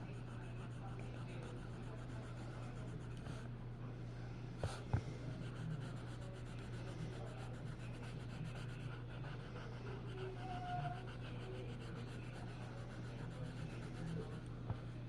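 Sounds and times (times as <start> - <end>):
drawing tool scratching on paper: 0.0 - 3.4, 5.4 - 14.9
low electrical hum: 0.0 - 15.0.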